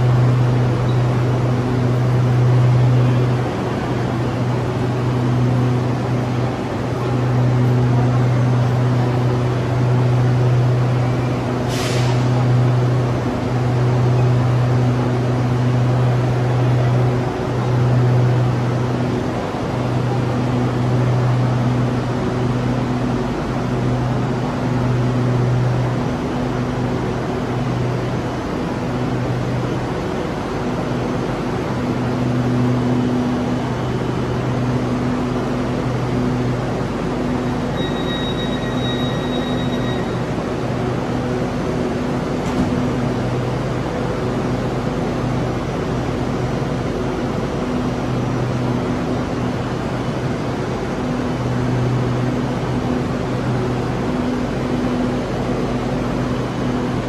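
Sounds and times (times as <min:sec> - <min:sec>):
electric train humming: 0:00.0 - 0:57.0.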